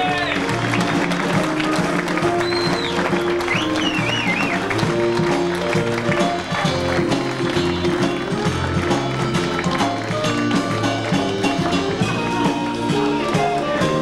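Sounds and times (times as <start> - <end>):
crowd clapping: 0.0 - 14.0
live band playing: 0.0 - 14.0.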